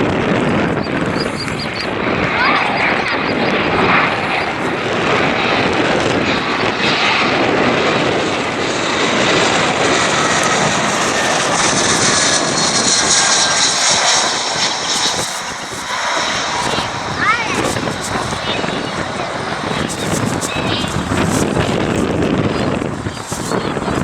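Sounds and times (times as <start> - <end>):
high engine whine: 0.0 - 24.0
jet engine roar: 0.0 - 24.0.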